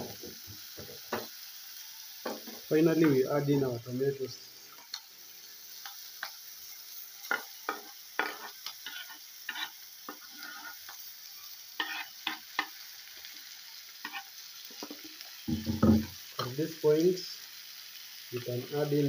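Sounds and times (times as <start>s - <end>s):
faint steady sizzle: 0.0s - 19.0s.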